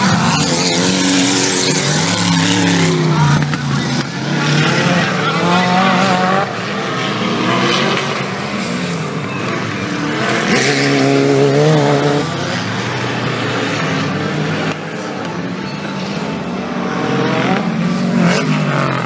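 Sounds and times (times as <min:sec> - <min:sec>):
off-road vehicle engines revving: 0:00.0 - 0:19.0.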